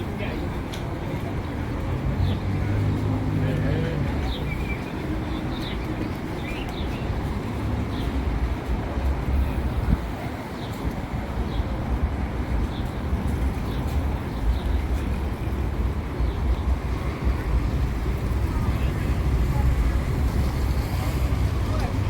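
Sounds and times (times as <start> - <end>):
city low rumble: 0.0 - 22.0.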